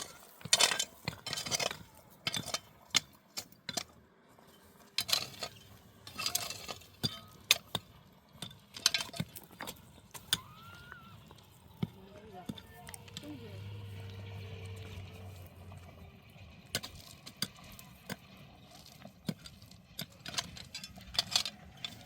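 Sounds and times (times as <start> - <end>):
objects clinking and knocking: 0.0 - 3.9, 4.6 - 13.4, 16.6 - 22.0.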